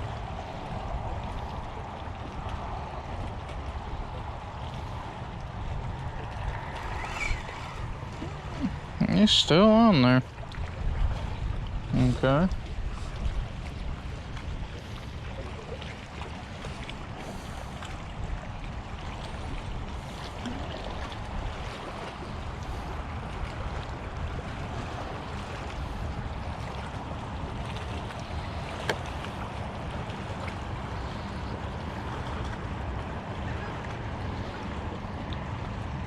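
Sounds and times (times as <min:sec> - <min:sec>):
water washing at shoreline: 0:00.0 - 0:36.0
wind buffeting microphone: 0:00.0 - 0:36.0.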